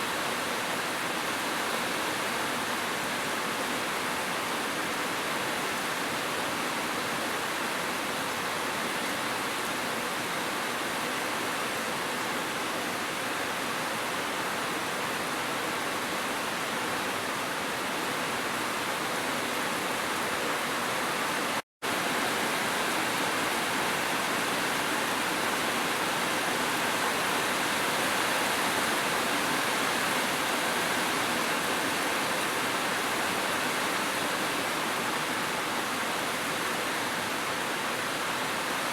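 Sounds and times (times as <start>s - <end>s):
gentle rain: 0.0s - 38.9s
waterfall: 0.0s - 38.9s.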